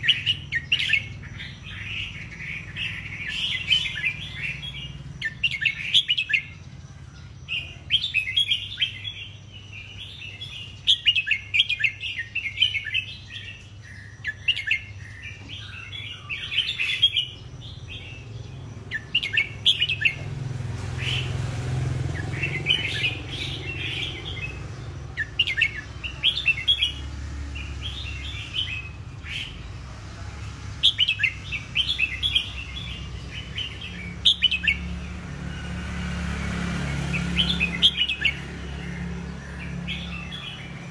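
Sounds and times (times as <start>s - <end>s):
bird singing warbled phrases: 0.0s - 40.9s.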